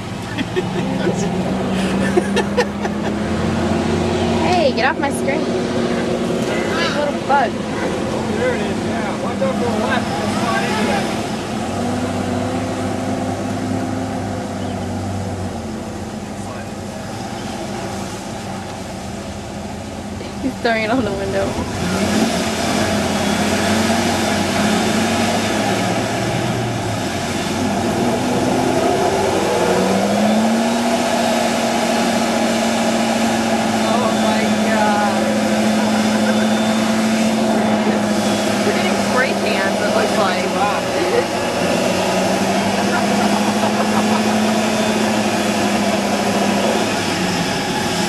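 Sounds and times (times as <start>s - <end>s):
tires spinning in mud: 0.0s - 48.0s
truck engine revving: 0.0s - 48.0s.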